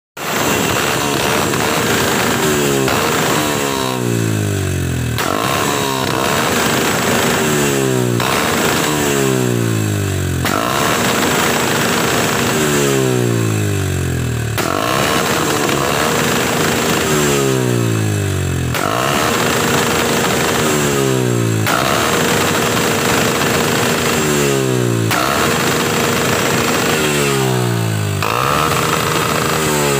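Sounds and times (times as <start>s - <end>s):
exhaust backfire bang: 0.2s - 12.6s, 14.5s - 29.9s
motorcycle engine revving: 0.2s - 29.9s.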